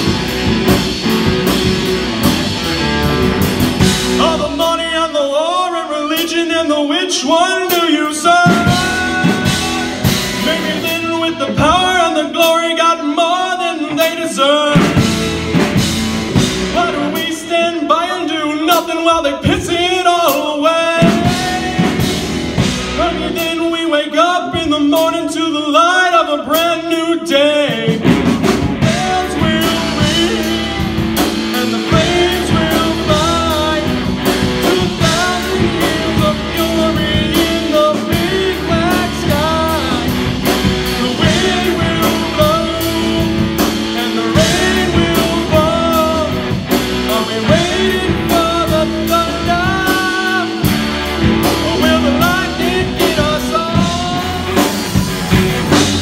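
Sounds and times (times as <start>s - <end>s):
electric guitars: 0.0s - 5.6s, 7.4s - 17.7s, 20.8s - 23.5s, 27.4s - 56.0s
drums: 0.0s - 56.0s
man singing: 2.8s - 56.0s.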